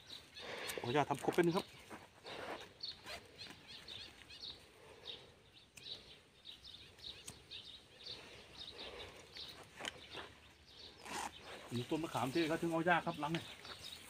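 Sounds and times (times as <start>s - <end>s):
rustling twigs and leaves: 0.0s - 14.0s.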